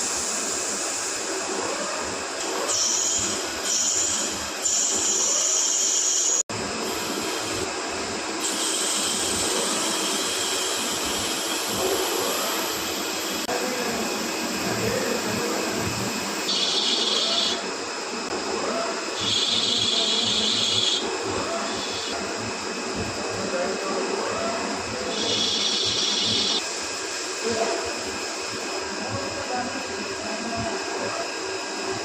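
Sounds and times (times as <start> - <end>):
machine running with steady hiss: 0.0 - 32.0.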